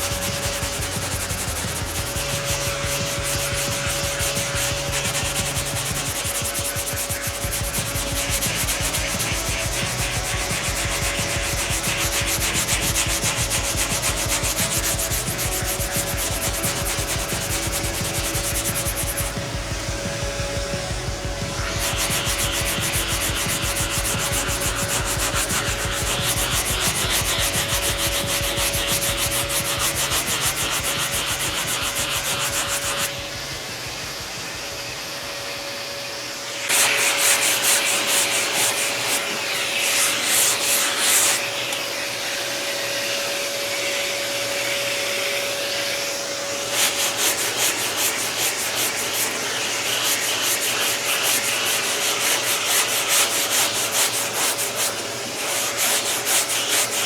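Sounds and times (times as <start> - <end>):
sandpaper rubbing over filler: 0.0 - 33.2, 36.6 - 57.0.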